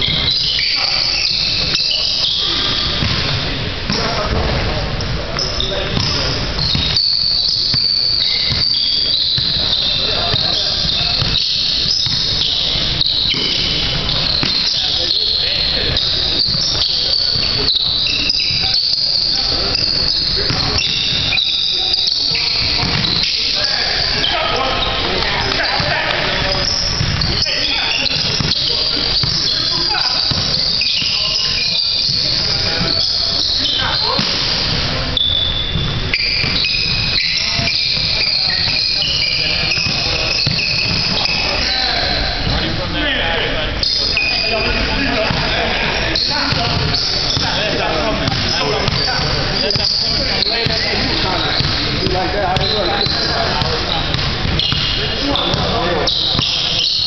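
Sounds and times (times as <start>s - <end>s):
basketball bouncing: 0.0s - 24.0s, 25.2s - 41.7s, 45.2s - 45.5s, 46.3s - 57.0s
ball being dribbled: 0.0s - 24.1s, 24.8s - 42.6s, 45.2s - 45.6s, 46.2s - 57.0s
shoes squeaking on gym floor: 0.0s - 42.8s, 43.8s - 57.0s.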